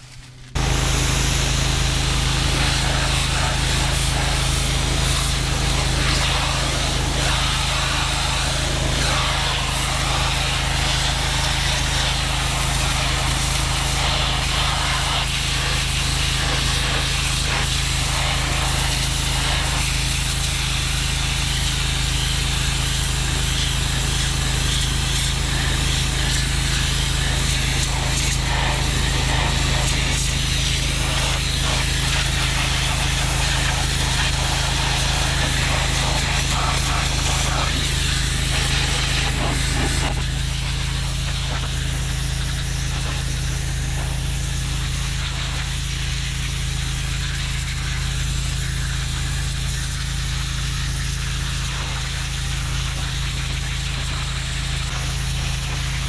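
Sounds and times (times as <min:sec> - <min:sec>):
high-pressure water spray hissing: 0:00.0 - 0:56.0
pressure washer pump running: 0:00.0 - 0:56.0.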